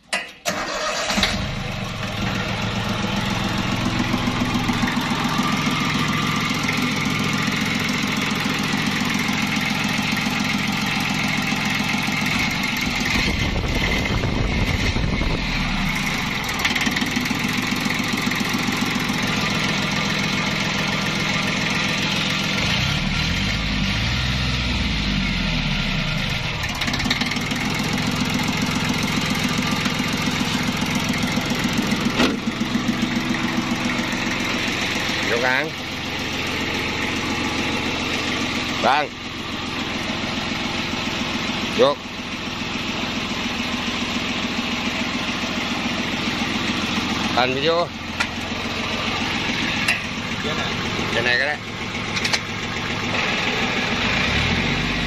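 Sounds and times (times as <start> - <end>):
tractor diesel engine idling: 0.1 - 55.0.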